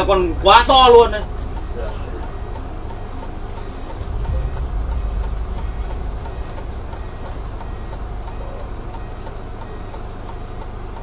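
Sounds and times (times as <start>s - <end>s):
steady ticking: 0.0s - 11.0s
vehicle engine idling: 0.0s - 11.0s.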